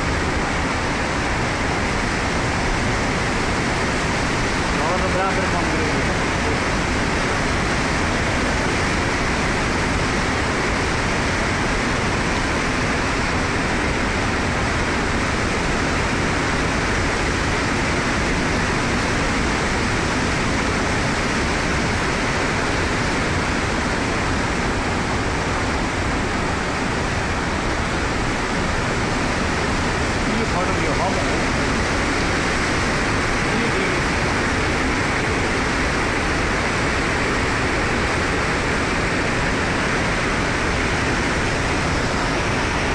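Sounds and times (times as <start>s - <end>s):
rushing floodwater: 0.0s - 42.9s.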